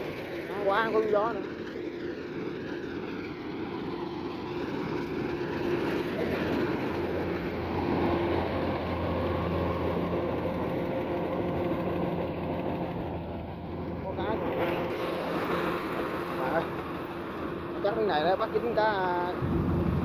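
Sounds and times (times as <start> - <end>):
combine harvester engine humming: 0.0 - 20.0.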